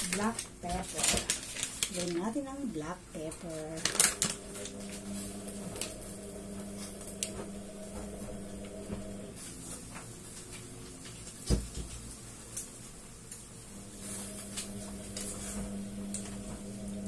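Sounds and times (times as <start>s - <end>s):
low multi-tone hum: 0.0s - 17.0s.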